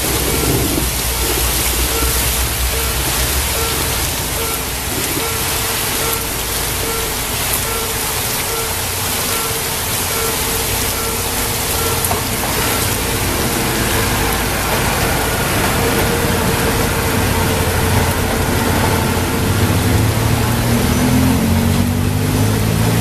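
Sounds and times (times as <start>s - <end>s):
level crossing warning tones: 0.0s - 22.2s
heavy rain hissing: 0.0s - 23.0s
train rumbling over crossing: 0.0s - 23.0s.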